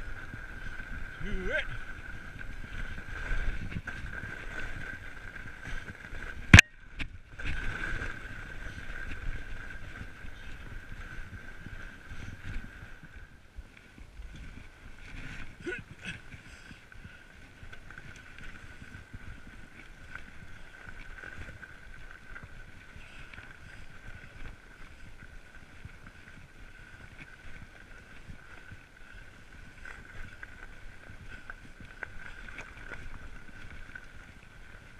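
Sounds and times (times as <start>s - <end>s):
bike tyres rumbling on snow: 0.0s - 34.9s.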